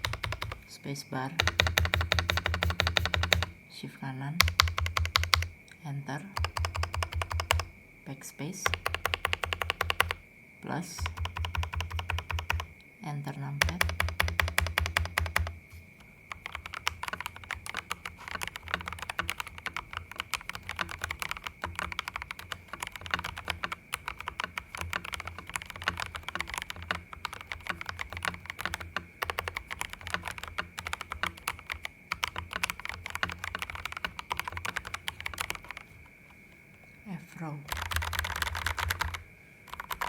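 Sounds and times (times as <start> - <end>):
mechanical keyboard typing: 0.0 - 0.7, 1.3 - 3.6, 4.4 - 5.6, 6.3 - 7.7, 8.6 - 10.2, 11.0 - 12.7, 13.6 - 15.6, 16.3 - 36.1, 37.7 - 40.0.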